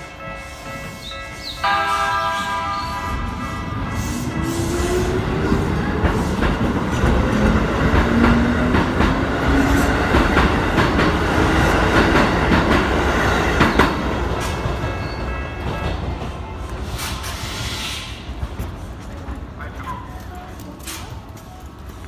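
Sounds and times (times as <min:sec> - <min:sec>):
electric train passing: 0:00.0 - 0:19.7
train wheels clacking over rail joints: 0:01.7 - 0:22.0.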